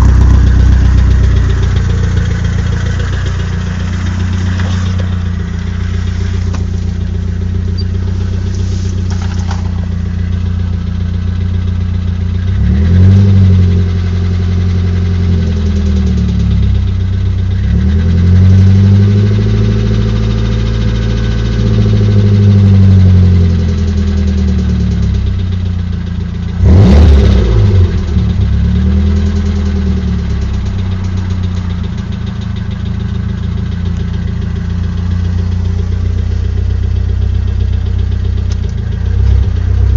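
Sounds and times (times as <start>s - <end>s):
car engine idling and revving: 0.0s - 39.9s
engine knocking: 0.0s - 39.9s.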